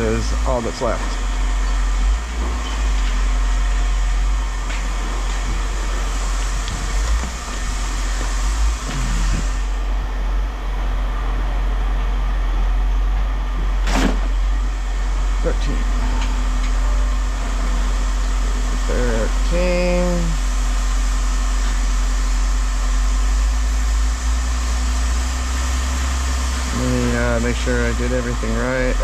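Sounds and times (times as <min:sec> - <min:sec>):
low mechanical rumble with hiss: 0:00.0 - 0:29.0.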